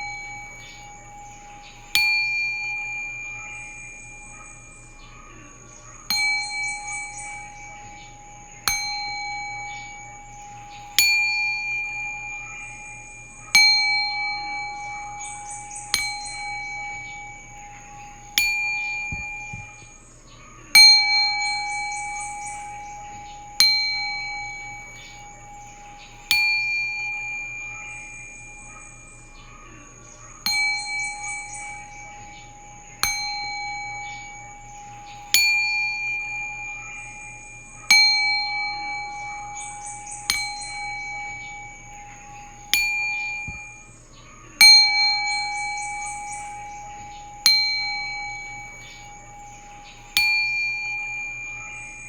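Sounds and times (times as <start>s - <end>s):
high shimmering jingle: 0.0s - 52.0s
singing bowl ringing: 0.0s - 52.0s.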